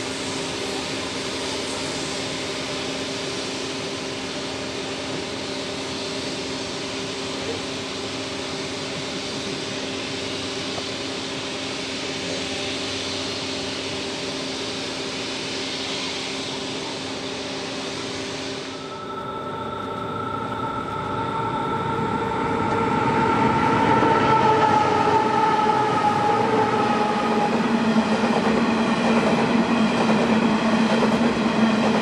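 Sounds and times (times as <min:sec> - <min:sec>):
diesel locomotive engine hum: 0:00.0 - 0:32.0
moving train hiss: 0:00.0 - 0:32.0.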